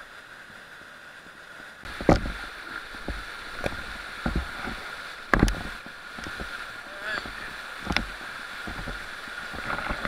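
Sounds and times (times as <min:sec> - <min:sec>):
whitewater rushing: 0:00.0 - 0:10.0
waves slapping against boat: 0:01.8 - 0:10.0.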